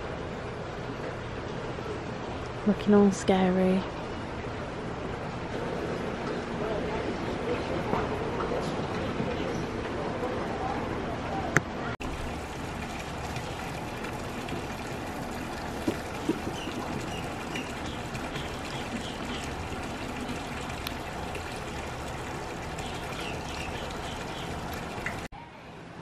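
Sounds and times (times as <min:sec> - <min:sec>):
trickling water: 0:00.0 - 0:11.4, 0:12.0 - 0:25.3.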